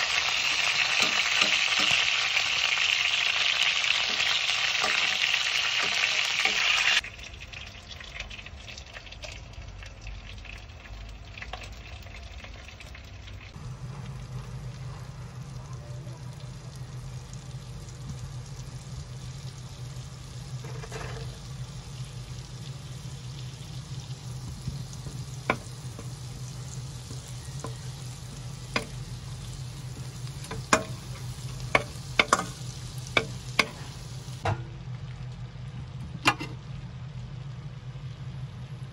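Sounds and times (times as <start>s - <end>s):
butter sizzling in pan: 0.0s - 34.4s
chicken frying in hot oil: 0.0s - 38.9s
low steady hum: 0.0s - 38.9s.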